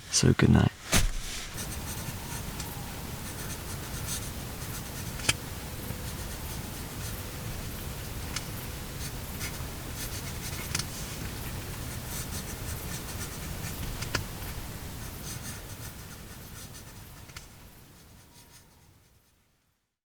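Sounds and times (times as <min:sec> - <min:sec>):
rustling and scratching: 0:00.7 - 0:18.6.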